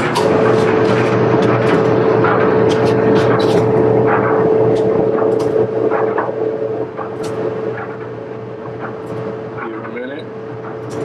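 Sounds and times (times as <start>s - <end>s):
clothes dryer humming and rumbling: 0.0s - 11.0s.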